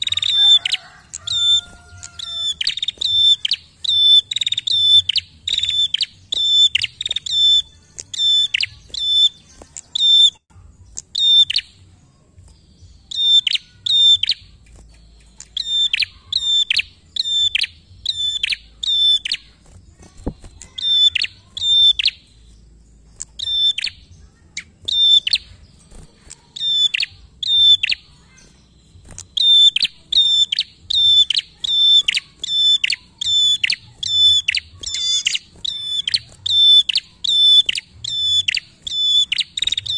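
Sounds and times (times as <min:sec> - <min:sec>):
bird calling: 0:00.0 - 0:11.7, 0:13.0 - 0:22.4, 0:26.3 - 0:39.9.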